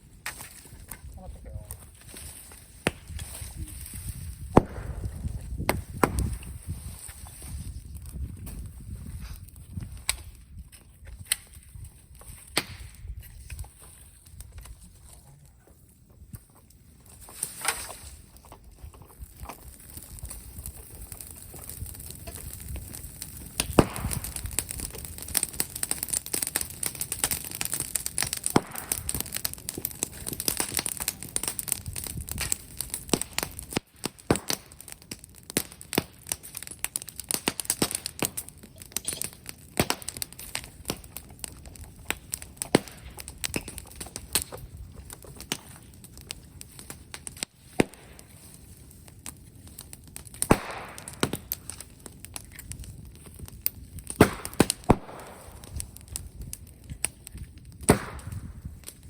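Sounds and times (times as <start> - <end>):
bonfire crackling and popping: 0.0 - 59.0.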